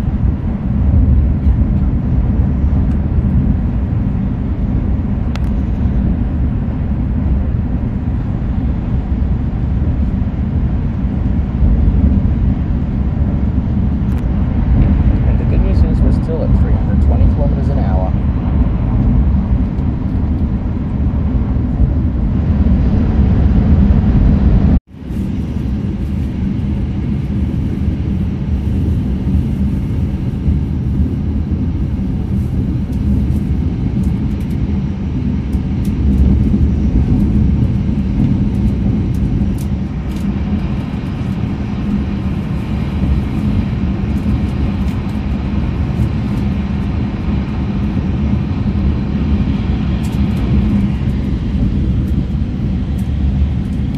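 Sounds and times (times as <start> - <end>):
train running noise inside car: 0.0 - 53.9.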